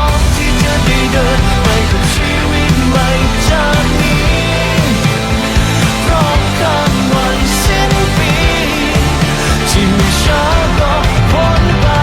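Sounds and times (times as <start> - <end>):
rock music: 0.0 - 12.0
steady drum beat: 0.0 - 12.0
gliding melody line: 0.2 - 11.7.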